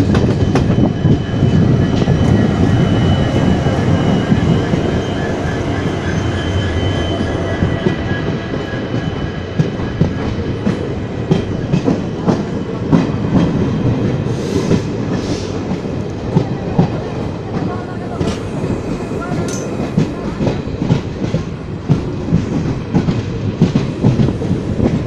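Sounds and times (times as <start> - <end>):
wheels clickety-clack on rail joints: 0.0 - 25.0.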